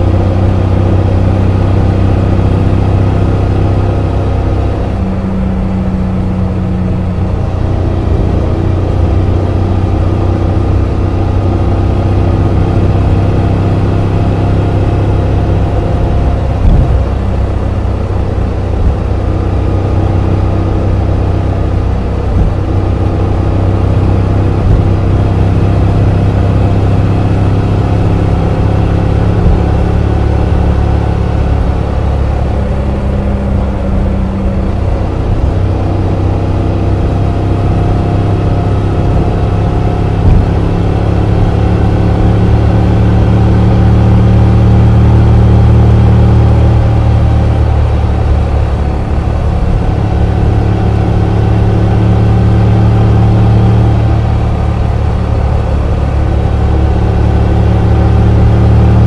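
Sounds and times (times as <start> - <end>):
motorcycle engine and exhaust: 0.0 - 59.0.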